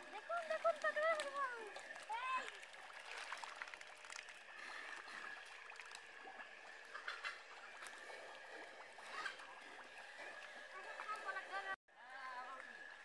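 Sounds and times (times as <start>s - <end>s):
small splashes: 0.0s - 13.0s.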